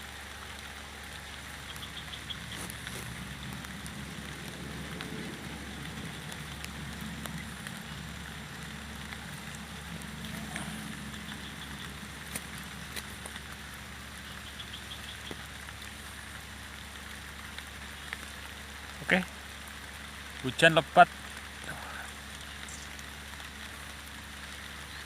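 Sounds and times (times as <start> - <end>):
heavy rain falling: 0.0 - 25.0
raindrop ticks: 0.0 - 25.0.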